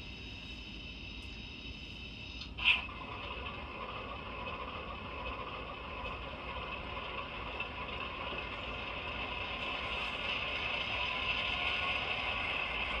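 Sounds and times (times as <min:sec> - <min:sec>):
model diesel engine sound: 0:00.0 - 0:13.0.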